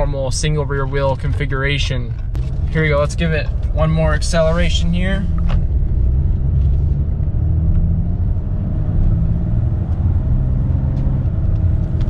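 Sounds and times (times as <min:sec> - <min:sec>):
diesel pickup accelerating: 0:00.0 - 0:12.0.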